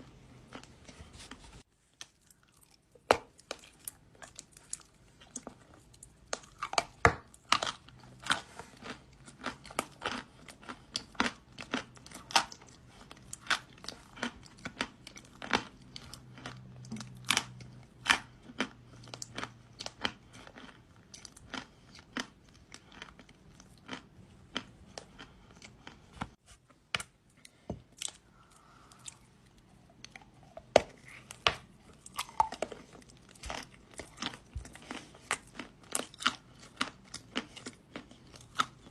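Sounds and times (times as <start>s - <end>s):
clay being chewed: 0.0s - 38.9s.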